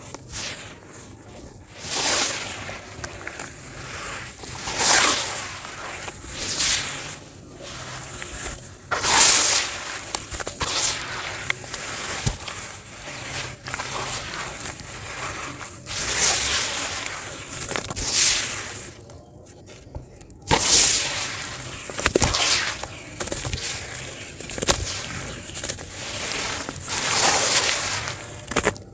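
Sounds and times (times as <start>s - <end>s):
wet sand crumbling by hand: 0.2s - 19.2s, 20.5s - 28.9s.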